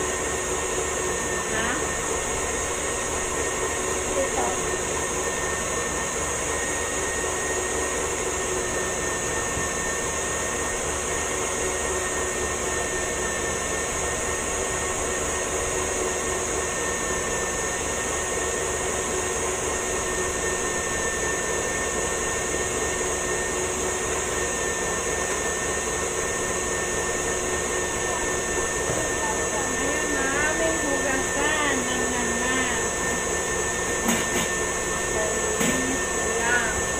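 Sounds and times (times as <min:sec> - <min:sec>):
stand mixer motor whining: 0:00.0 - 0:36.9.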